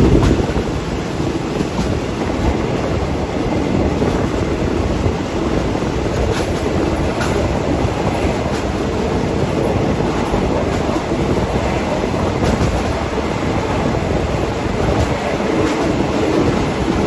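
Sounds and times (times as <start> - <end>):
train wheels rumbling on rail: 0.0 - 17.0
wheels clicking over rail joints: 0.0 - 17.0.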